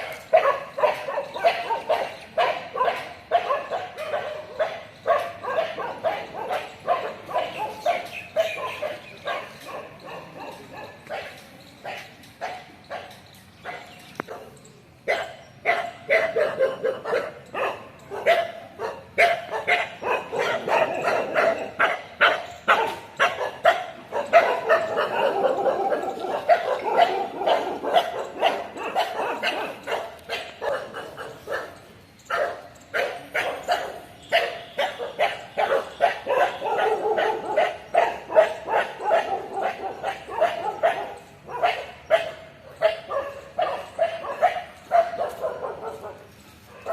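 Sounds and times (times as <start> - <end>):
dogs barking: 0.0 - 46.9.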